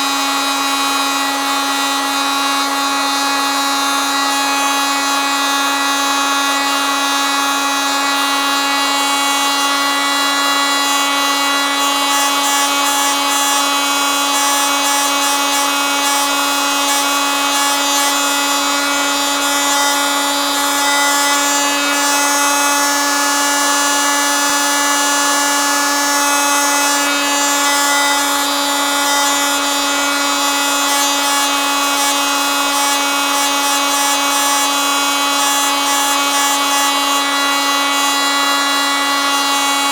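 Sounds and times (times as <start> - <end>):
oscillating multitool whining: 0.0 - 39.9.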